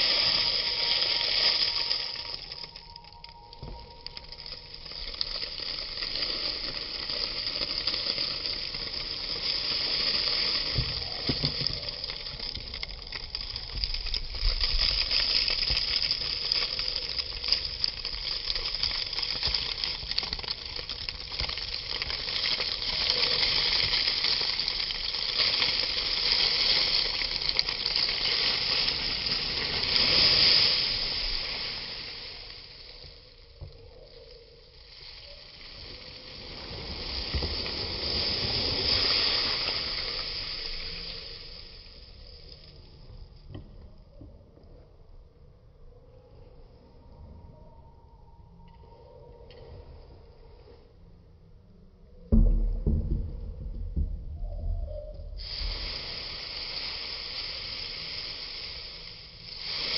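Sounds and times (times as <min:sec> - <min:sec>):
dry herbs pouring into sack: 0:00.0 - 0:43.3, 0:54.4 - 0:59.9.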